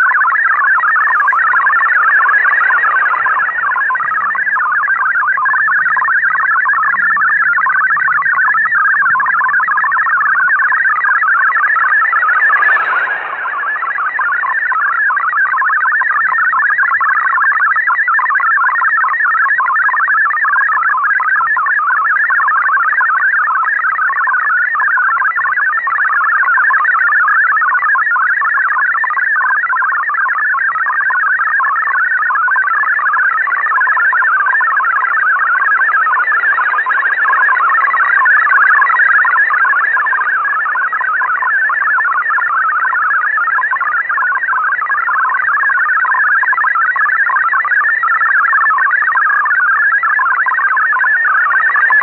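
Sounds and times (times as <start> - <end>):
digital data signal warble: 0.0 - 52.0.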